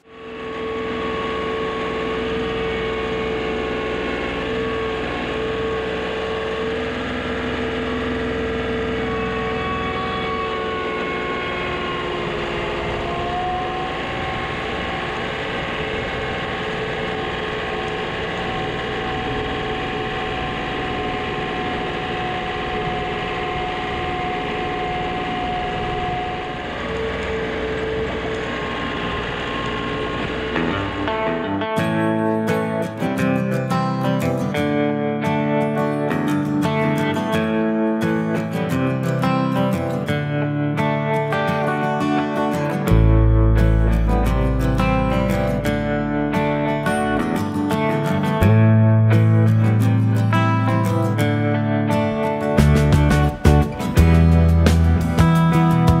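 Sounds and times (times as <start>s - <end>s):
steady whining tones: 0.0s - 56.0s
tractor diesel engine running: 0.0s - 56.0s.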